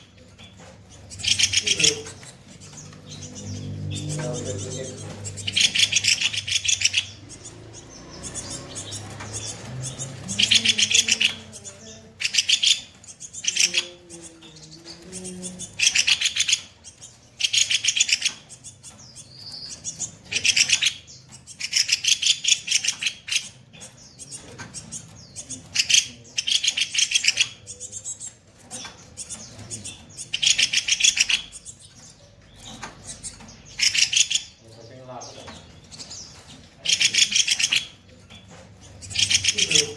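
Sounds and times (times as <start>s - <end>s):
bird calling in rattling trills: 0.0s - 39.9s.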